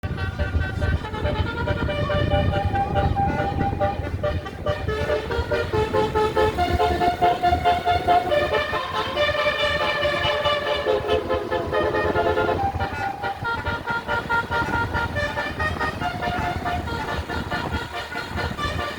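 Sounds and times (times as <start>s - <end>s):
musical air horn tune: 0.0s - 18.9s
steady low rumble: 0.0s - 18.9s.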